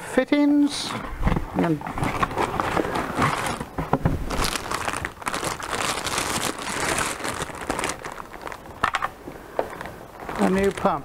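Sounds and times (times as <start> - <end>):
plastic packaging crinkling: 2.0 - 11.0.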